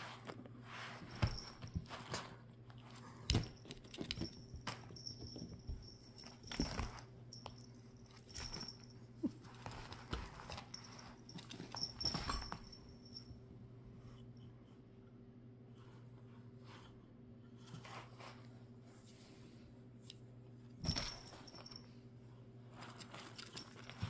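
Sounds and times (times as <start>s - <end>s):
soft rustles: 0.0s - 13.3s, 15.7s - 24.0s
faint low hum: 0.0s - 24.0s.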